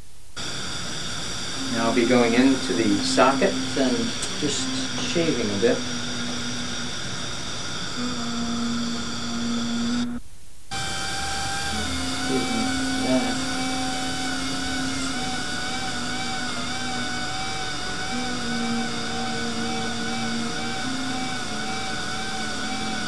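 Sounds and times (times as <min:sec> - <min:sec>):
dental drill whining: 0:00.4 - 0:23.0.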